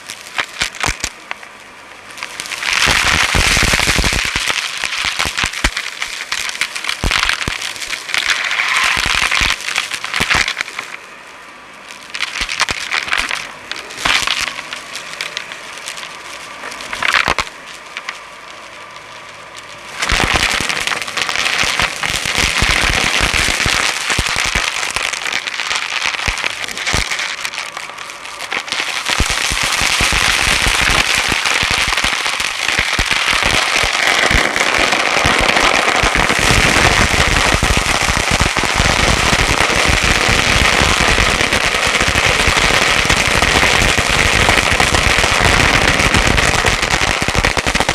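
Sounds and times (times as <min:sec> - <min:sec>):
debris crackling and rattling: 0:02.2 - 0:11.1, 0:12.0 - 0:18.7, 0:19.6 - 0:47.9.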